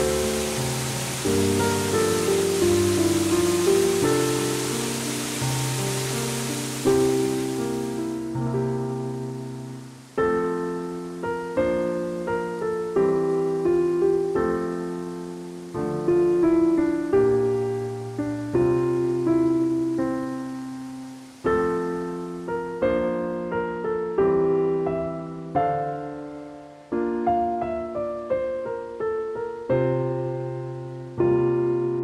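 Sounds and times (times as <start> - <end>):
slow gentle piano: 0.0 - 32.0.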